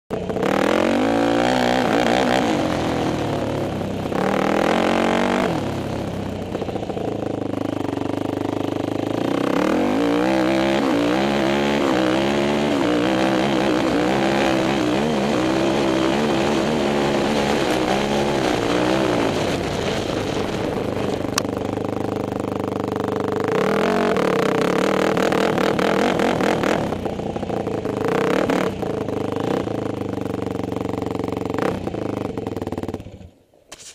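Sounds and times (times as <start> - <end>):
atv engine revving: 0.1 - 33.4.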